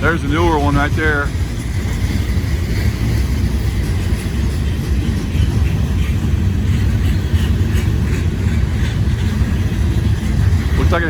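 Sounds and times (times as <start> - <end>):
freight train rolling past: 0.0 - 11.0
steel wheels clattering on rails: 0.0 - 11.0.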